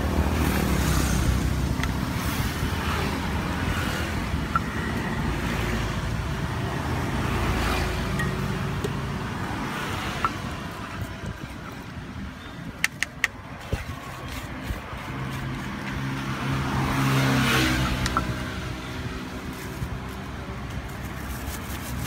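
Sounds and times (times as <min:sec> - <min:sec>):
rumble of passing vehicles: 0:00.0 - 0:22.0.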